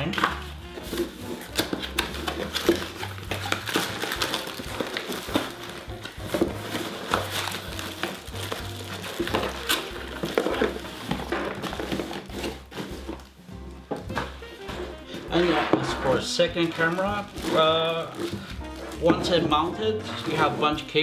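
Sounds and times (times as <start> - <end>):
background music with low bass: 0.0 - 21.0
cardboard box and plastic crinkling: 0.0 - 21.0.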